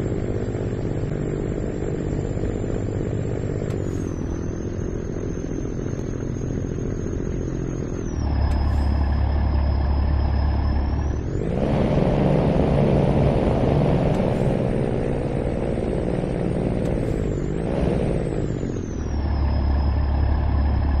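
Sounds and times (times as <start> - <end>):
diesel coach engine droning: 0.0 - 21.0
thin high engine whine: 0.0 - 21.0.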